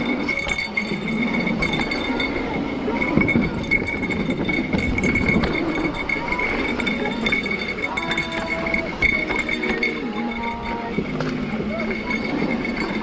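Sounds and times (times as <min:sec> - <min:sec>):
bike chain clinking and rattling: 0:00.0 - 0:13.0.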